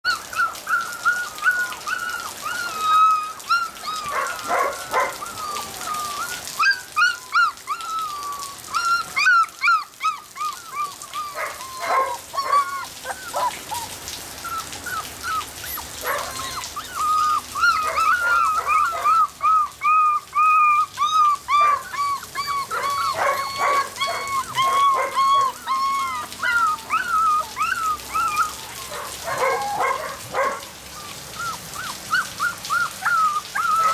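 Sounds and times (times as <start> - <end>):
puppies whining and whimpering: 0.0 - 33.9.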